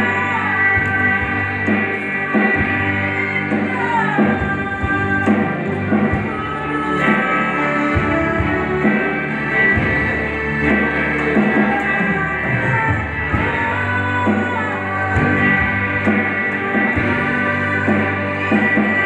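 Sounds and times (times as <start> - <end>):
electric guitar: 0.0 - 19.0
electronic drum kit: 0.0 - 19.0
woman singing into a microphone: 0.0 - 19.0.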